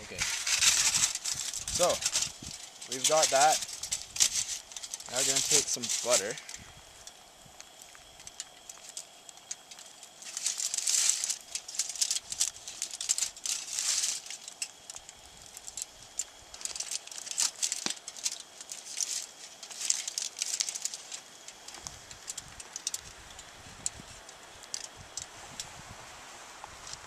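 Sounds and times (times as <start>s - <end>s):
foil wrapper crinkling: 0.1s - 25.6s.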